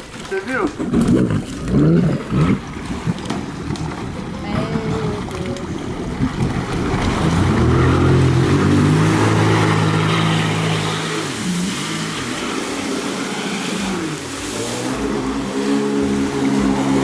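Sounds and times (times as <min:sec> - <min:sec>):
jet ski engine revving: 0:00.0 - 0:17.0
rush of water spray: 0:00.0 - 0:17.0.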